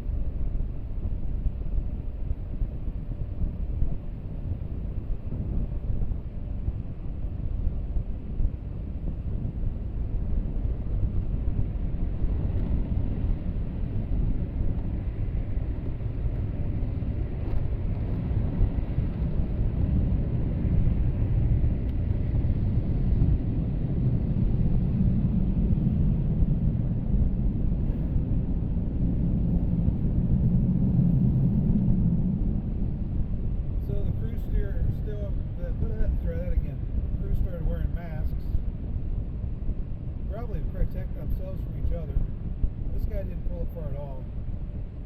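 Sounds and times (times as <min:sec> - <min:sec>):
truck engine and road rumble: 0:00.0 - 0:45.0.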